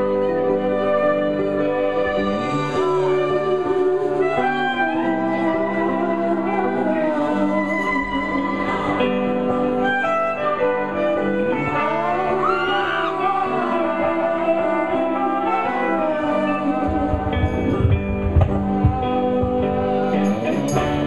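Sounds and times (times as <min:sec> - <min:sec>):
electric guitar chords: 0:00.0 - 0:21.0.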